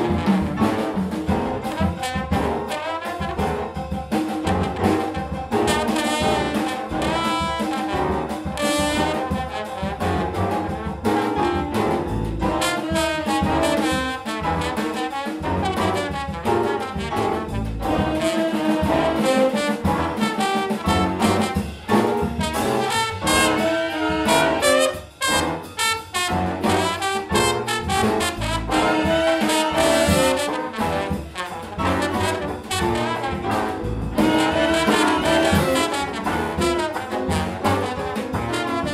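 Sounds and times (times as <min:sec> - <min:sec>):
big band jazz: 0:00.0 - 0:38.9
drums keeping time: 0:00.0 - 0:38.9
trombone soloing: 0:00.0 - 0:38.9.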